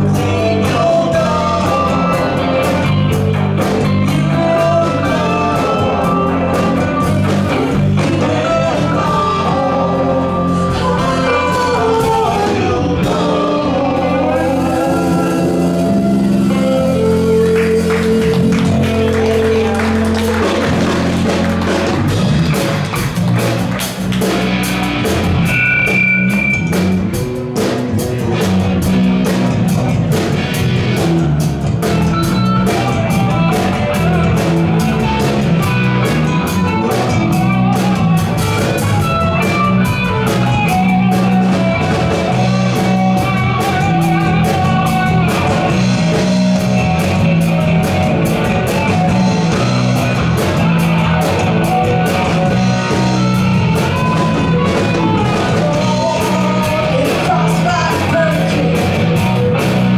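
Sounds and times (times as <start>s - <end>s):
bass guitar: 0.0s - 59.9s
drum kit steady beat: 0.0s - 59.9s
electric guitars: 0.0s - 59.9s.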